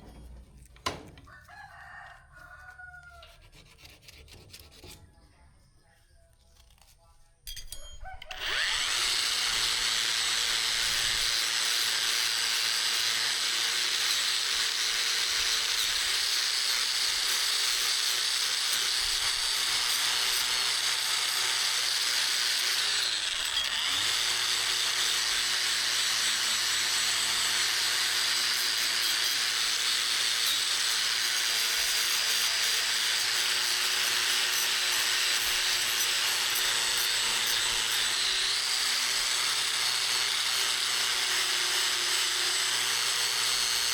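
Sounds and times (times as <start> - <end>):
electric power tool running: 8.3 - 43.9.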